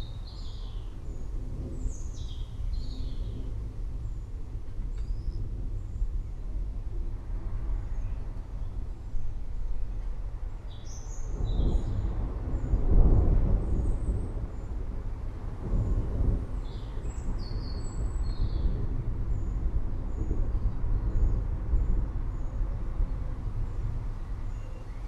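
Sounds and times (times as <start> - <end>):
distant thunder rumbling: 0.0 - 7.6, 10.9 - 24.8.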